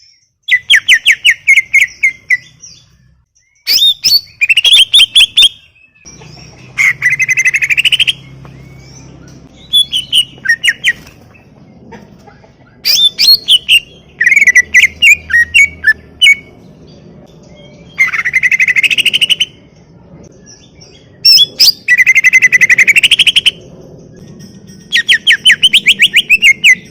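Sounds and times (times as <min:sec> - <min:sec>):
bird singing trills and whistles: 0:00.0 - 0:11.5, 0:12.8 - 0:26.9.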